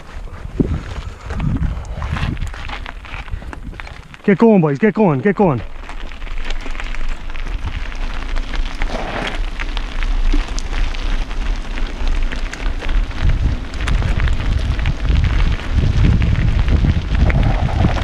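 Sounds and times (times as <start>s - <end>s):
wind rumble on microphone: 0.0s - 4.2s, 5.6s - 18.0s
bike rattling: 0.0s - 18.0s
bike tyres crackling on gravel: 0.0s - 18.0s.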